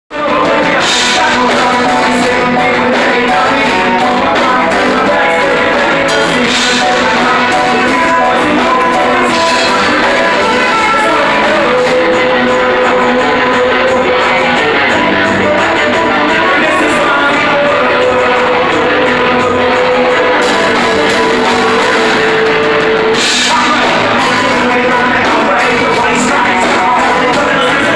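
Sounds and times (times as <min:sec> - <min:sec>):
drums: 0:00.1 - 0:27.9
electric guitar: 0:00.1 - 0:27.9
person singing: 0:00.1 - 0:27.9.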